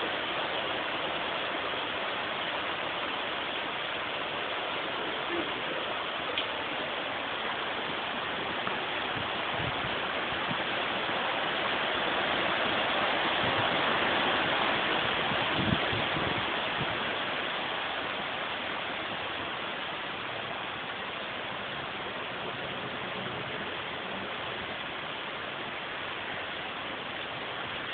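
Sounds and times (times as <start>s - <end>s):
heavy rain on brick street: 0.0s - 27.9s.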